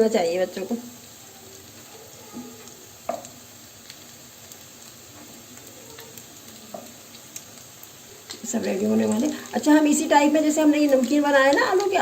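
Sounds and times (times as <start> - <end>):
bread rolls sizzling in oil: 0.0 - 12.0.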